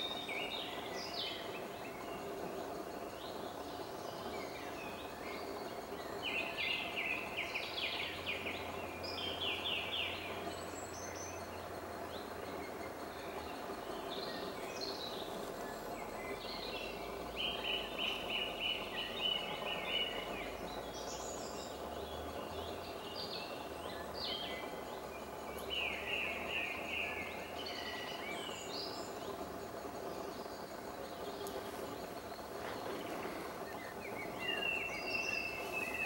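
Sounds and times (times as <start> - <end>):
background hiss: 0.0 - 36.0
songbirds singing: 0.0 - 36.0.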